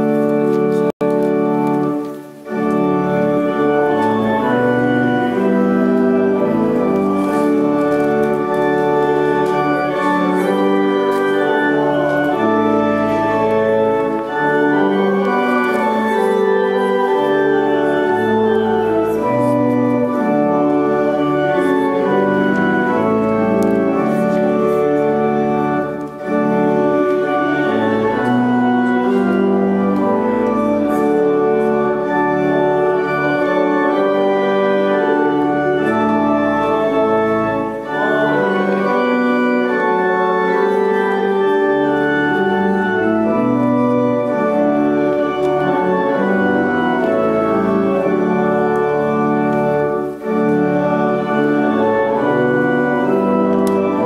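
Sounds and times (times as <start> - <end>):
church organ playing a hymn: 0.0 - 54.0.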